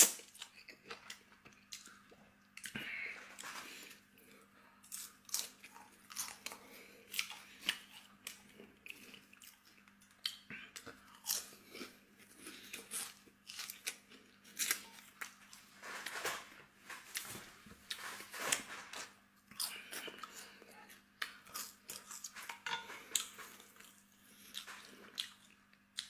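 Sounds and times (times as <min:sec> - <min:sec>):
crunchy chewing: 0:00.0 - 0:26.0.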